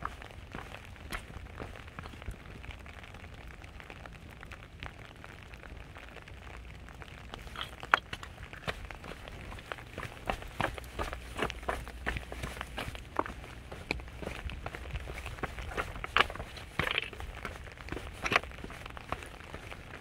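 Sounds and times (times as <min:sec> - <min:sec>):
rain drips and taps: 0:00.0 - 0:20.0.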